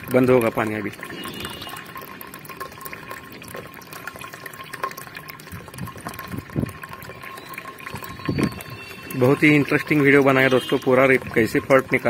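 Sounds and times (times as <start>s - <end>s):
water trickling into a tank: 0.0s - 12.0s.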